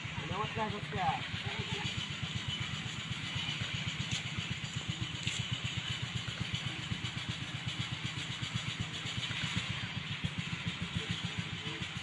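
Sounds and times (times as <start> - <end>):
engine chugging: 0.0 - 12.0.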